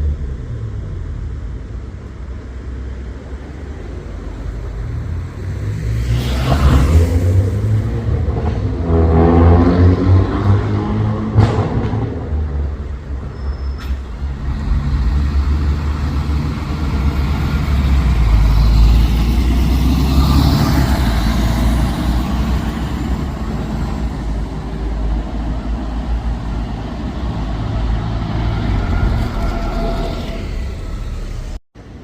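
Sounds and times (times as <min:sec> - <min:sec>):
bus engine rumble: 0:00.0 - 0:10.0, 0:10.8 - 0:32.0.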